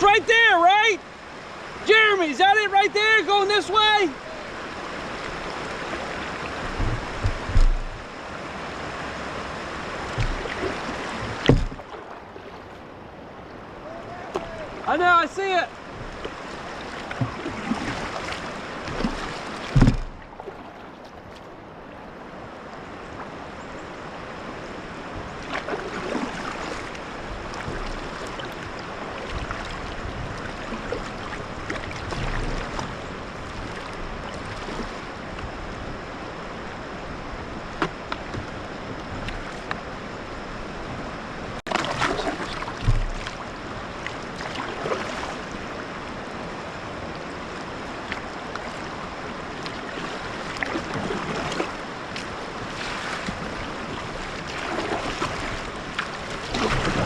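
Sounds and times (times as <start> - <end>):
water splashes: 0.0 - 36.8, 37.4 - 57.0
river water rushing: 0.0 - 57.0.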